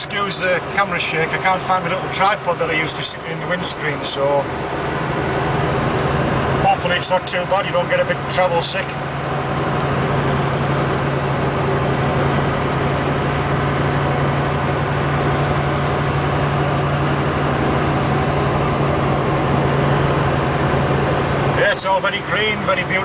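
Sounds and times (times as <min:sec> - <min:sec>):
diesel engine hum: 0:00.0 - 0:23.0
tyre and road noise: 0:00.0 - 0:23.0.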